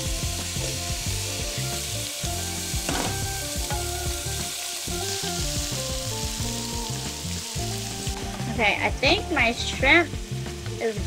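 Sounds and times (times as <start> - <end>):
shrimp sizzling in oil: 0.0 - 11.0.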